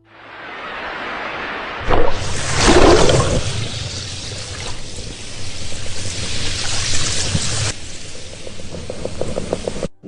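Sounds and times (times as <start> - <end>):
water rushing and splashing: 0.0 - 8.9.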